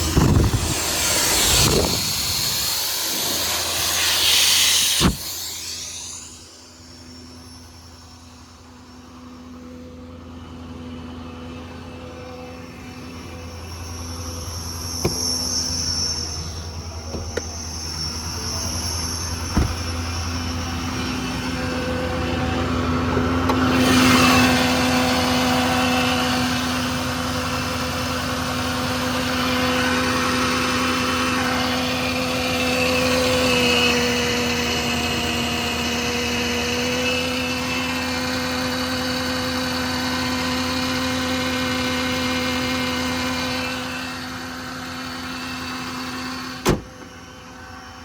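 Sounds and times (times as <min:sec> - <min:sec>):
air compressor hissing: 0:00.0 - 0:09.1, 0:12.5 - 0:47.6
diesel engine running: 0:00.0 - 0:48.0.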